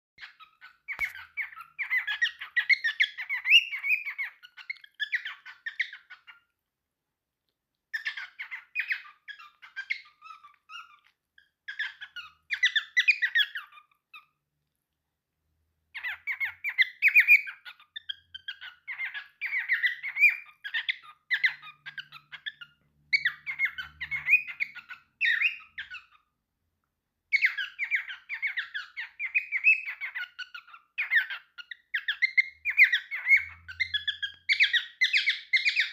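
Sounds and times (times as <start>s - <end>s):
cockatiel chattering and singing: 0.2s - 6.6s, 7.9s - 14.4s, 15.8s - 26.4s, 27.3s - 35.9s.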